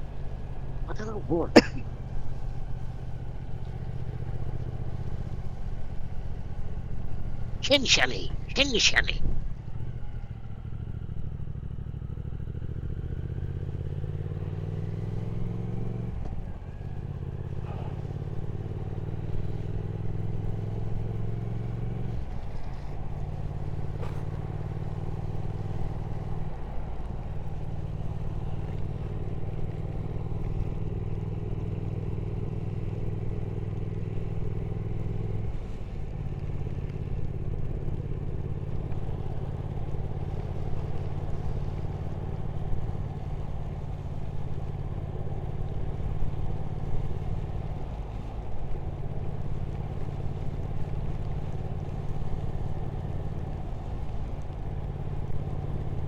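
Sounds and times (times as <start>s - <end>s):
motorcycle engine cruising: 0.0s - 0.9s, 1.6s - 7.6s, 9.4s - 56.0s.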